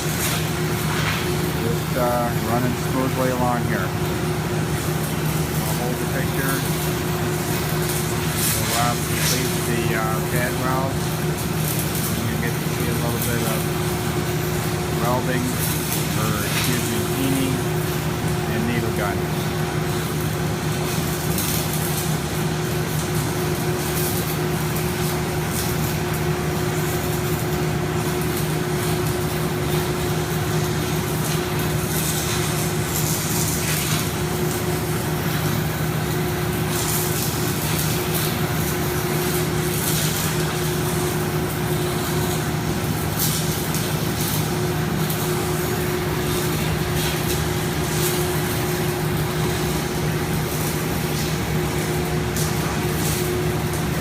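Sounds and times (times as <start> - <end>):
hum of smoke collectors: 0.0 - 54.0
welding arc hissing and crackling: 0.0 - 54.0.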